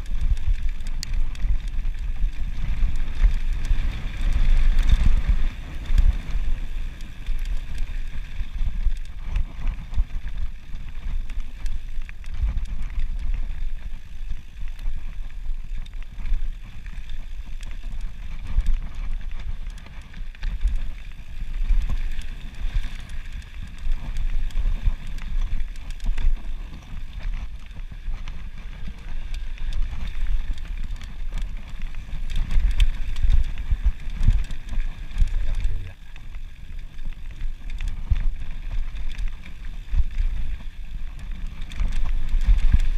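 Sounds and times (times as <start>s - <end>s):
bike rattling over stones: 0.0s - 42.9s
wind buffeting microphone: 0.0s - 42.9s.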